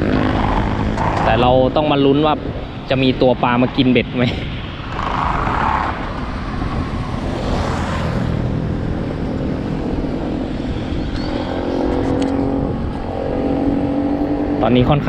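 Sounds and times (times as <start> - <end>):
vehicle engine passing: 0.0 - 15.0
wind buffeting microphone: 0.0 - 15.0.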